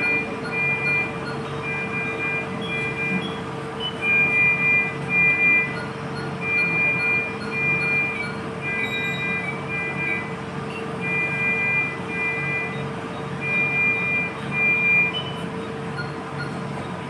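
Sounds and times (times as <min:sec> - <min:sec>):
hospital monitor alarm beeping: 0:00.0 - 0:17.0
steady electrical hum: 0:00.0 - 0:17.0.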